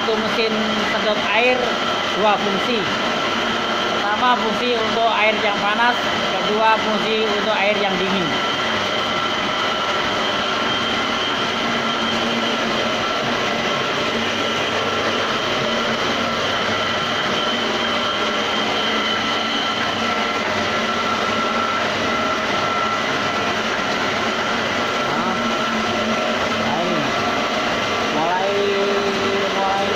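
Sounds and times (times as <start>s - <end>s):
machine motor whining: 0.0s - 29.9s.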